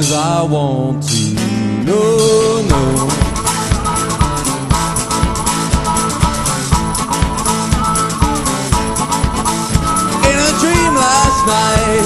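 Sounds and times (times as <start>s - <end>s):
blues-rock guitar: 0.0s - 12.0s
steady drum beat: 2.1s - 12.0s.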